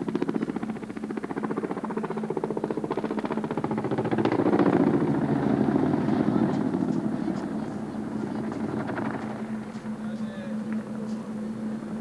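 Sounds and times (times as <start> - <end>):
helicopter rotor blades chopping: 0.0 - 12.0.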